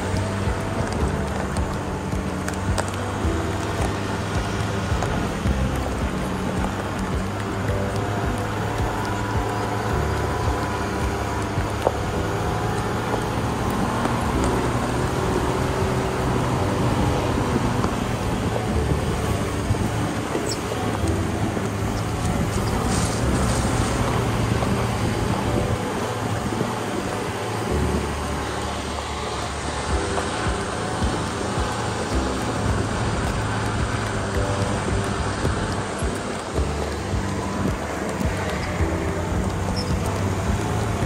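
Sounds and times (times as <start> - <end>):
background music: 0.0 - 41.0
vehicle engine running: 0.0 - 41.0.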